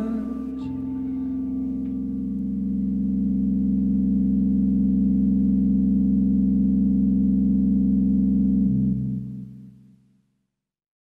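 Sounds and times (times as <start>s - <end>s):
sustained low drone: 0.0s - 9.9s.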